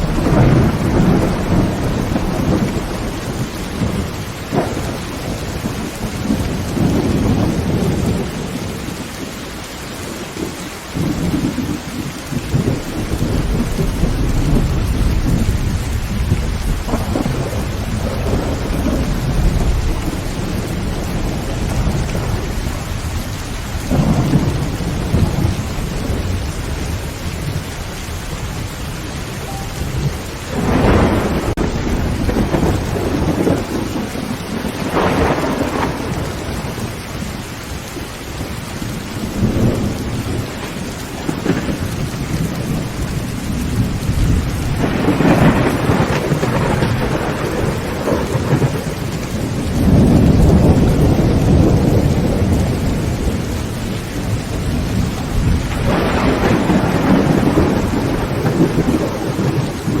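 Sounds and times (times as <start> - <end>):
heavy rain on a tin roof: 0.0 - 60.0
thunder rumbling: 0.0 - 60.0.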